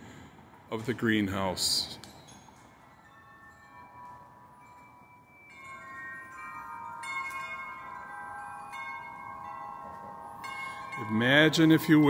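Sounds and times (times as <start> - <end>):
wind chimes ringing: 0.7 - 12.0.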